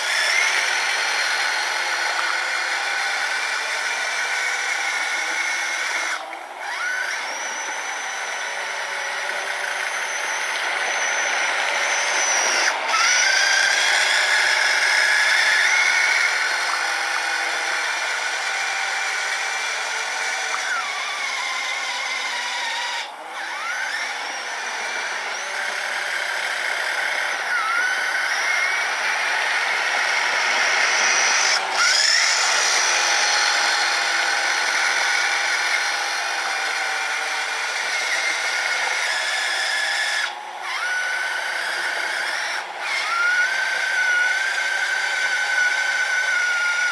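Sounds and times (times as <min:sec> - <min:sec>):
small electric motors whining: 0:00.0 - 0:46.9.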